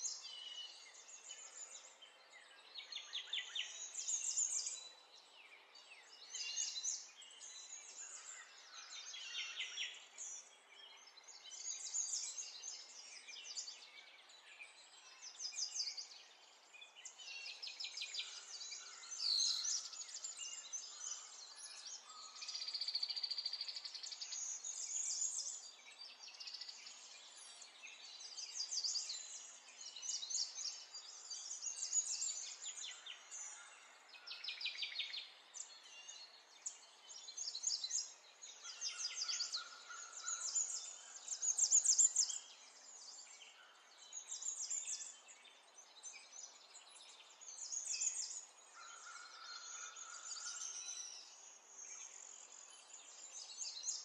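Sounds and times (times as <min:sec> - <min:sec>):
faint outdoor hiss: 0:00.0 - 0:54.0
small birds chirping and singing: 0:00.0 - 0:54.0.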